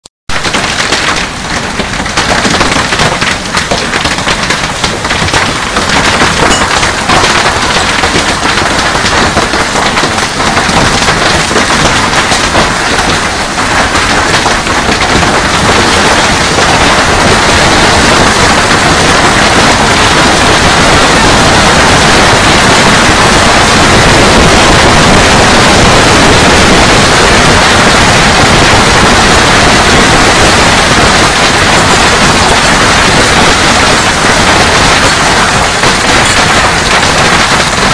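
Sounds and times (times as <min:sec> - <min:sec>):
hailstones pelting down: 0:00.3 - 0:37.9.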